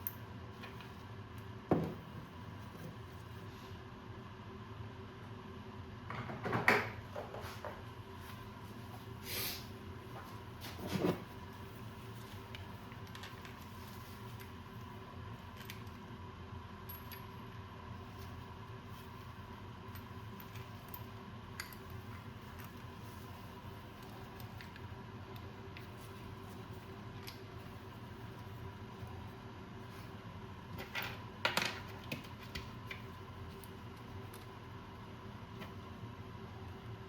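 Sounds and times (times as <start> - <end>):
room hum: 0.0 - 37.0.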